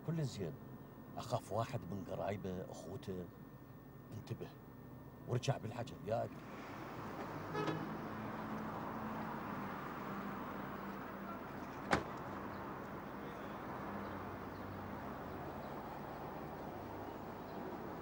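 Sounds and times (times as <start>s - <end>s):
street traffic noise: 2.5s - 18.0s.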